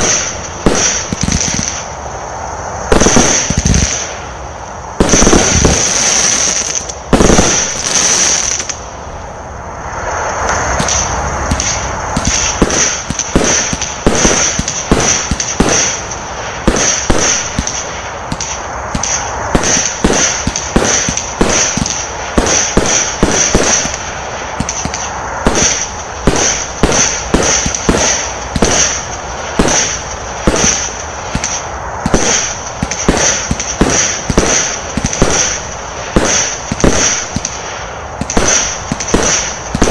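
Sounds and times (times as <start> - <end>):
loud firework bangs: 0.0 - 2.1, 2.7 - 8.8, 10.5 - 39.9
sharp firework shots: 0.0 - 8.8, 10.4 - 39.9
firework hissing crackle: 0.0 - 39.9.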